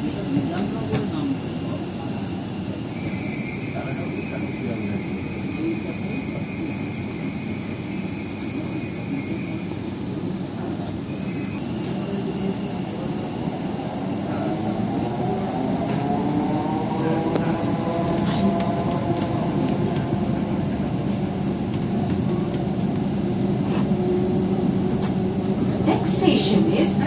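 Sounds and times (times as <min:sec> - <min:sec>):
electric train running: 0:03.0 - 0:27.0.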